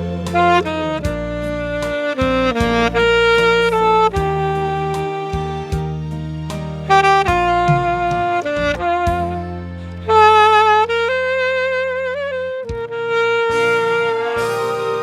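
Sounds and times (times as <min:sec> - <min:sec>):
backing track with bass and drums: 0:00.0 - 0:15.0
saxophone melody: 0:00.0 - 0:15.0.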